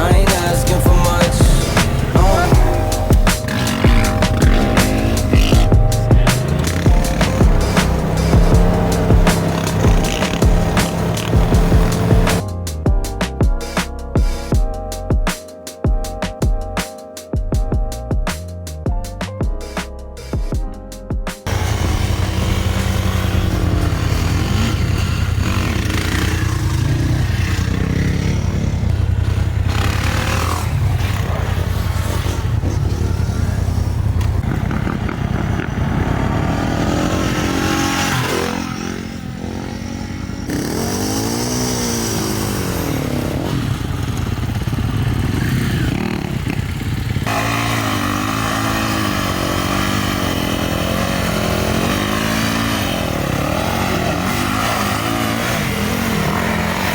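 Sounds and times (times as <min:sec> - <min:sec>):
dirt bike engines revving: 0:00.0 - 0:14.5, 0:21.4 - 0:56.9.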